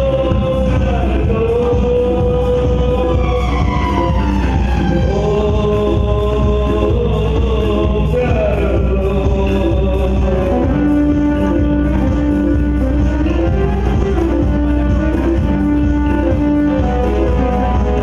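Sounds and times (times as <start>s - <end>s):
drums and congas beat: 0.0s - 18.0s
keyboard: 0.0s - 18.0s
person singing: 0.0s - 18.0s.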